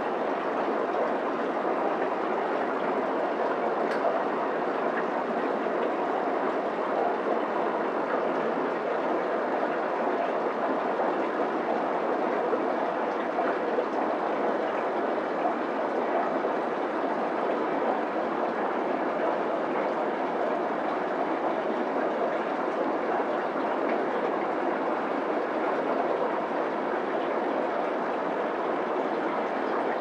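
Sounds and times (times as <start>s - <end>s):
aquarium filter bubbling: 0.0s - 30.0s.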